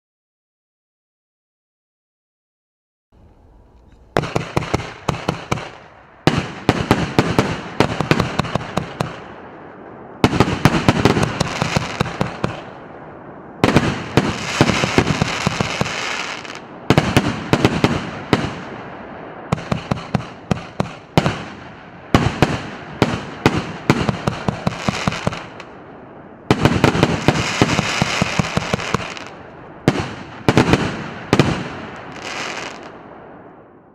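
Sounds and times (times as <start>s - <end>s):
fireworks hissing and crackling: 3.2s - 33.1s
fireworks volleys: 3.2s - 33.8s.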